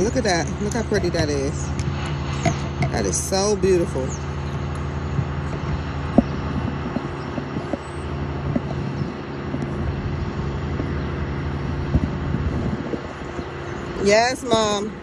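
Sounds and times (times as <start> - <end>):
construction machinery engine drone: 0.0 - 15.0.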